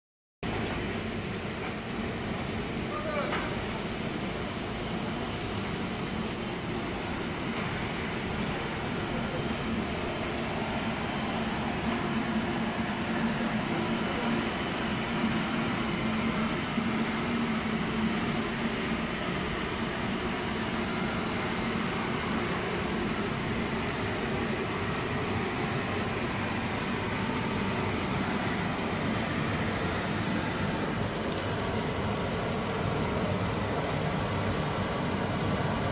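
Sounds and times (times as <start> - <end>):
furnace motors and blowers running: 0.4 - 35.9.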